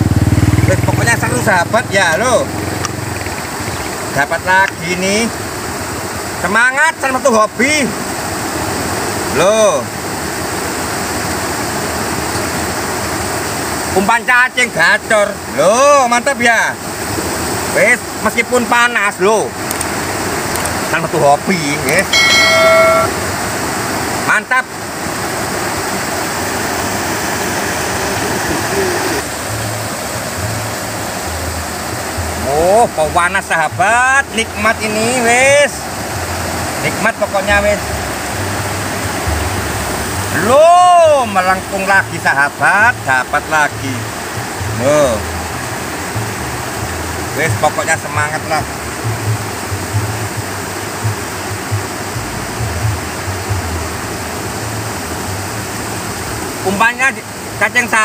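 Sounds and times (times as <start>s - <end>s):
water rushing through sluice gate: 0.0s - 58.0s.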